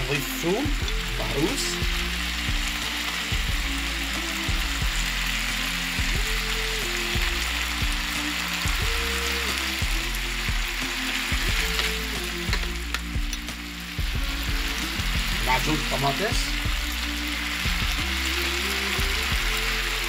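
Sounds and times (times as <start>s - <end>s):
background music: 0.0s - 20.0s
food sizzling in a pan: 0.0s - 20.0s.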